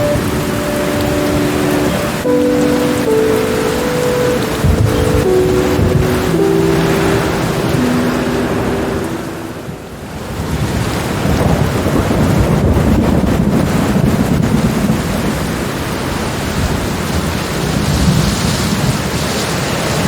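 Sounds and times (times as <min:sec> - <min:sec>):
heavy rain: 0:00.0 - 0:20.0
rolling thunder rumble: 0:00.0 - 0:20.0.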